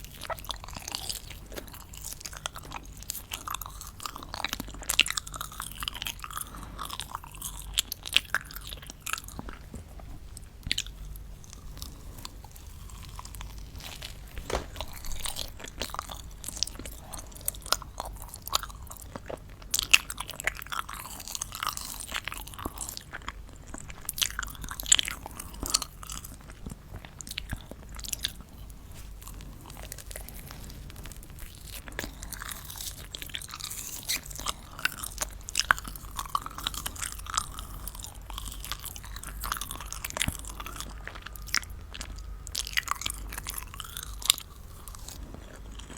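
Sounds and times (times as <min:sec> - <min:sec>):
chewing and crunching candy: 0:00.0 - 0:45.9.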